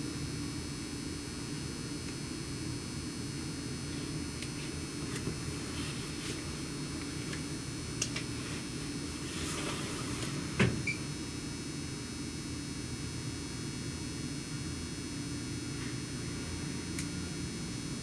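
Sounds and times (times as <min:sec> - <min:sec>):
train air conditioning hum: 0:00.0 - 0:18.0.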